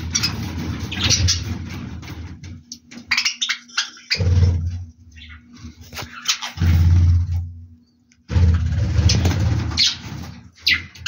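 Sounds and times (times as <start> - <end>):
budgerigars chirping and squawking: 0.0 - 7.4, 8.4 - 11.0.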